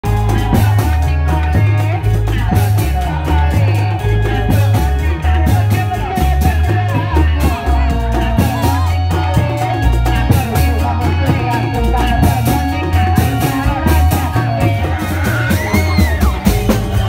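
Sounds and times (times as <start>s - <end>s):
drum strokes: 0.0s - 17.0s
heavy bass line: 0.0s - 17.0s
wavering lead melody: 0.0s - 17.0s.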